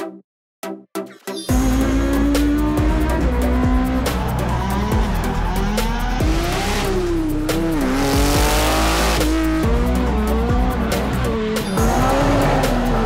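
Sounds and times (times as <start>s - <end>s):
background music: 0.0s - 13.0s
car engine revving: 1.5s - 13.0s.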